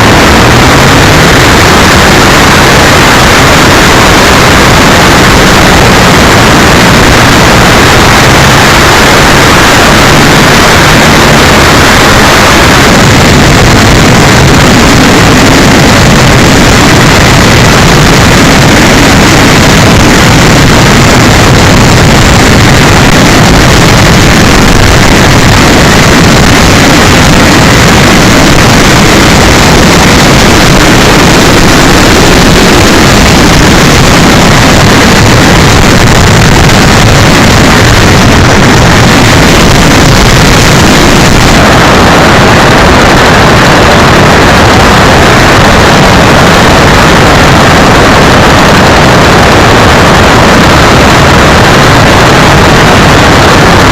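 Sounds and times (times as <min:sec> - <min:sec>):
wind rush: 0:00.0 - 0:53.9.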